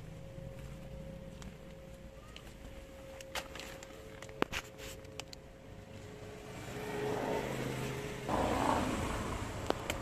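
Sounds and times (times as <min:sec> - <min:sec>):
motor vehicle engine hum: 0:00.0 - 0:10.0.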